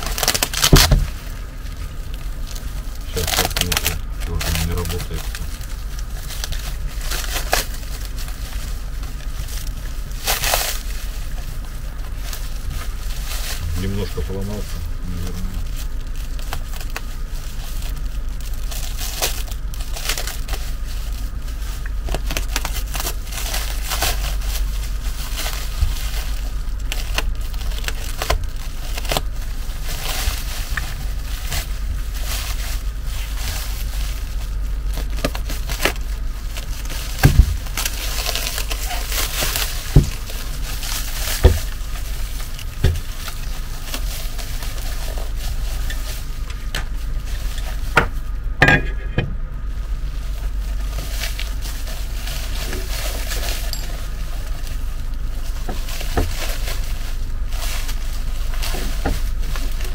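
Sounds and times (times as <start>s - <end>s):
plastic wrap crinkling: 0.0s - 59.9s
steady low hum: 0.0s - 59.9s.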